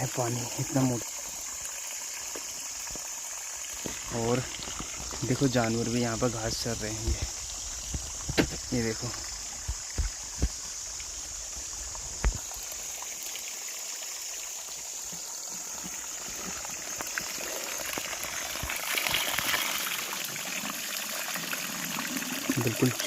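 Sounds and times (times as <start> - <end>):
spring water gushing and splashing: 0.0 - 23.0.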